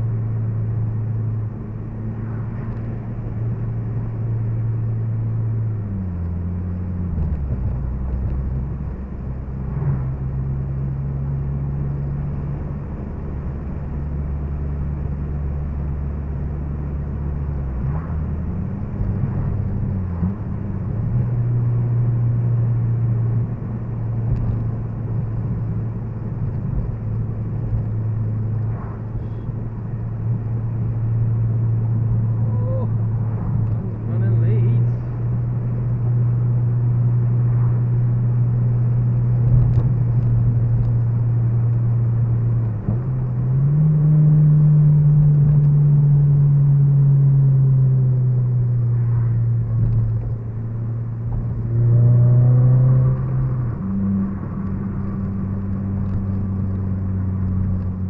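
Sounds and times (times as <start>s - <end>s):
car engine and road noise humming: 0.0s - 58.0s.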